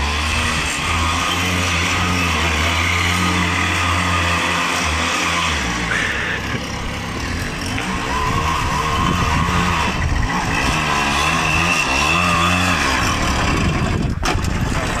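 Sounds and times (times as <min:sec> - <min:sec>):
moped engine passing by: 0:00.0 - 0:14.2.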